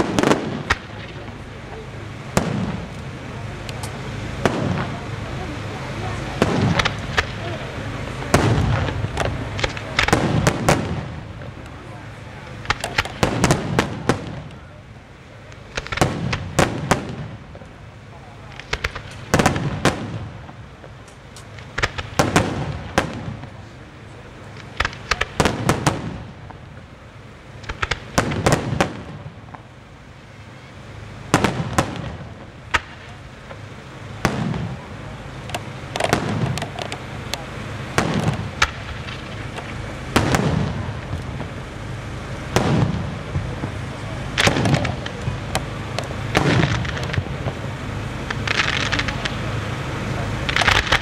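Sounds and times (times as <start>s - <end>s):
firework shells bursting: 0.0s - 5.2s, 6.4s - 11.8s, 12.4s - 14.6s, 15.4s - 17.8s, 18.5s - 23.6s, 24.4s - 26.8s, 27.5s - 29.7s, 31.3s - 51.0s
firework hissing crackle: 0.0s - 51.0s.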